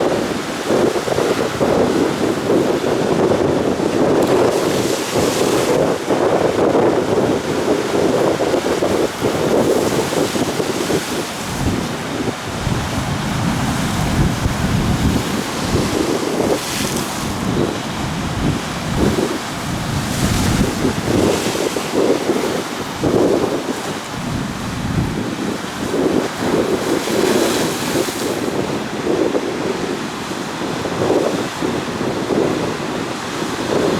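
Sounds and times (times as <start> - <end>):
sea surf breaking: 0.0 - 33.9
waves washing in with hiss: 0.0 - 33.9
wind buffeting microphone: 0.0 - 33.9.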